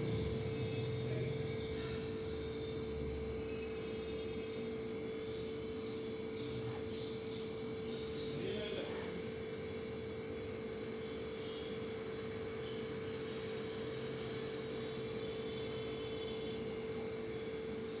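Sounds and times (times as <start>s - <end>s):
steady single-tone hum: 0.0s - 18.0s.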